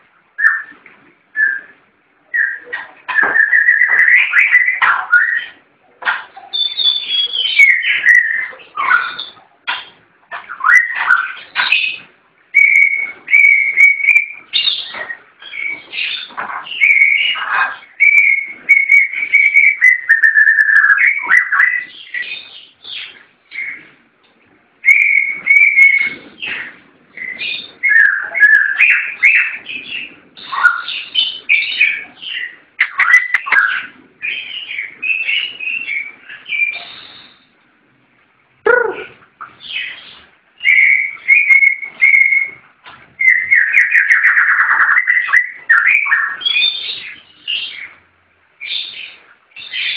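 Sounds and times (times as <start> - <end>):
songbird singing: 0.0 - 37.7, 38.6 - 49.9.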